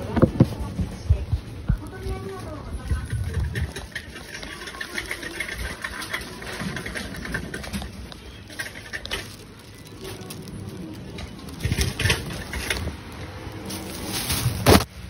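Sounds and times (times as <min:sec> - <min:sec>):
shopping cart rattling: 0:01.8 - 0:14.9.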